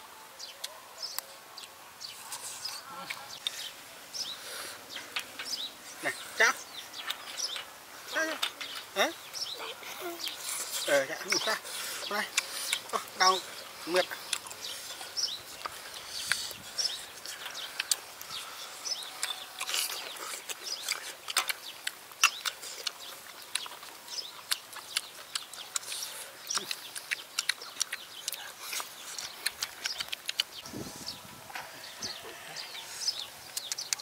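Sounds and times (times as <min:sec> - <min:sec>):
faint birds chirping: 0:00.0 - 0:34.0.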